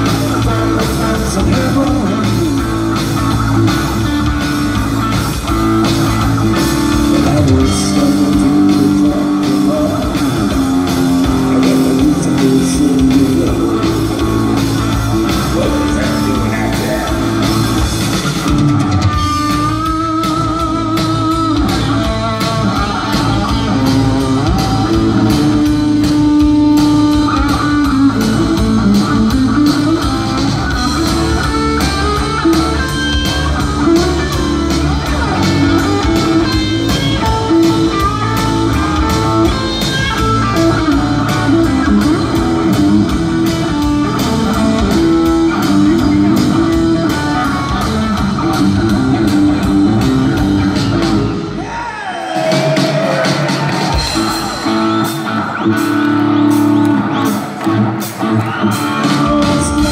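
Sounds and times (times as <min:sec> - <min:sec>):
bass guitar: 0:00.0 - 0:59.9
drum kit: 0:00.0 - 0:59.9
electric guitar lead: 0:00.0 - 0:59.9.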